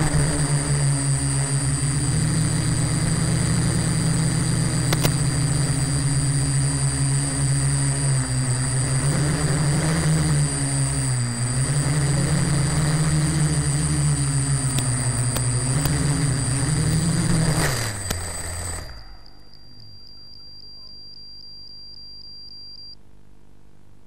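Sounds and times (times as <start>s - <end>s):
quadcopter motors whirring: 0.0s - 19.5s
high whine: 0.0s - 23.0s.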